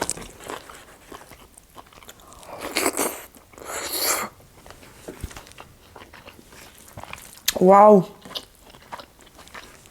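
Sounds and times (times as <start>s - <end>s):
chewing and mouth noises: 0.0s - 9.9s.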